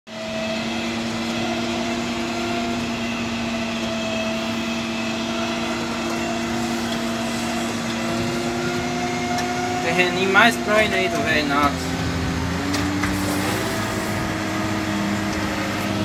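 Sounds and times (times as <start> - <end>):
tractor engine droning: 0.1 - 16.0.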